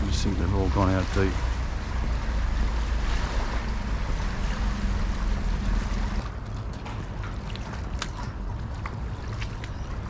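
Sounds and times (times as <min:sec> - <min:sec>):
faint steady drone: 0:00.0 - 0:10.0
wind rumbling on microphone: 0:00.0 - 0:10.0.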